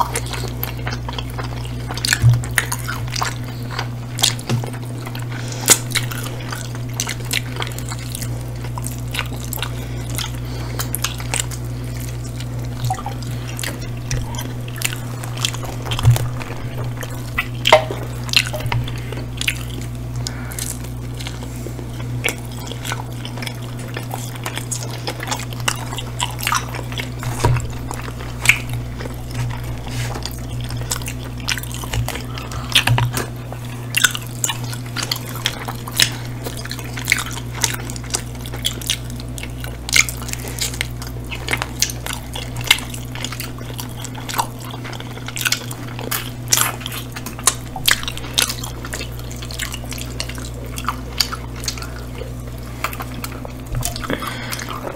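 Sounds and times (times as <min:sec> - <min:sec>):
close chewing and wet mouth sounds: 0:00.0 - 0:54.9.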